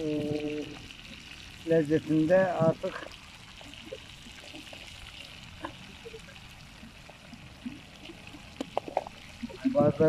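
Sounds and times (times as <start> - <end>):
fish sizzling in oil: 0.0 - 10.0.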